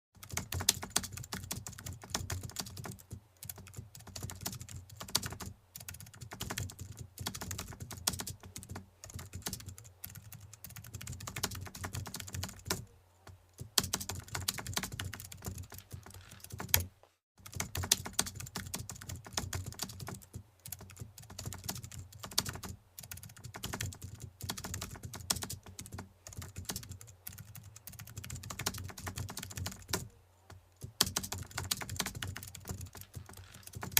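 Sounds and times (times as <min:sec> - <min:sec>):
typing on computer keyboard: 0:00.2 - 0:12.9, 0:13.6 - 0:33.9.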